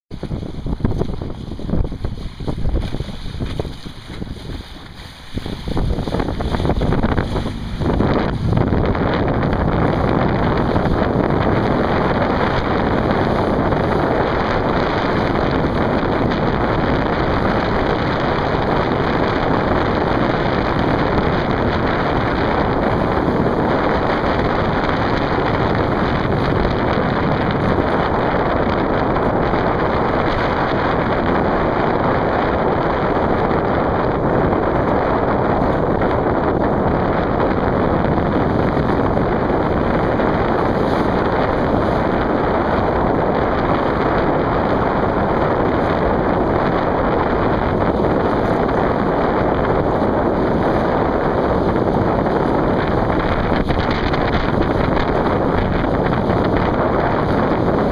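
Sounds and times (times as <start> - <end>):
wind buffeting microphone: 0.1 - 57.9.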